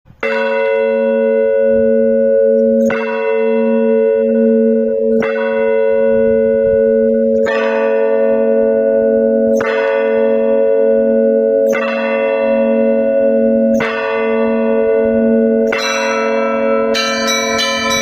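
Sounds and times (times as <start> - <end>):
church bells ringing: 0.2 - 18.0.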